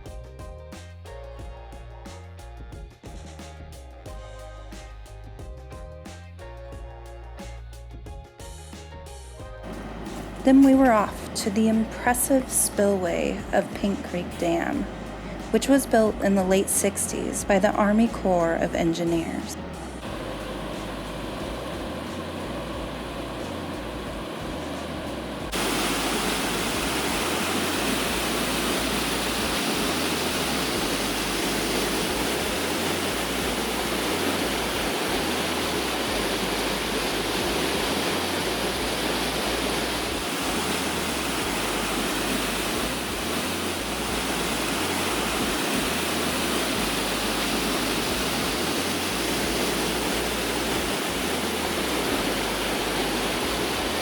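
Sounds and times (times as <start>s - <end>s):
water rushing down spillway: 9.6s - 54.0s.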